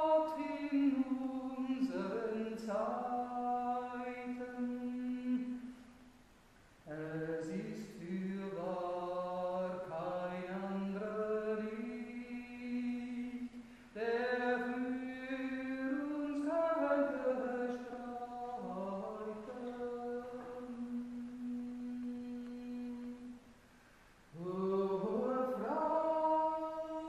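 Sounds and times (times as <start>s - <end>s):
woman singing a hymn solo: 0.0s - 5.8s, 6.8s - 23.4s, 24.3s - 27.0s.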